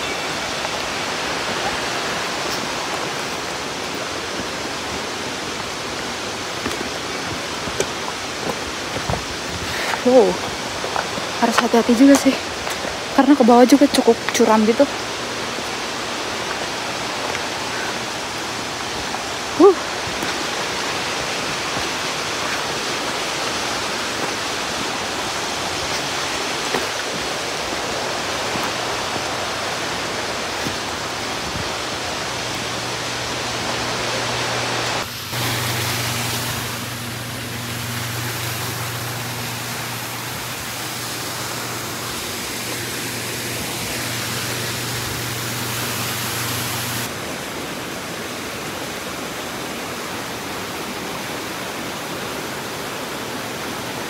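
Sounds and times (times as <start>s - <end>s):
low steady hum: 0.0s - 48.2s
mountain stream rushing: 0.0s - 54.0s.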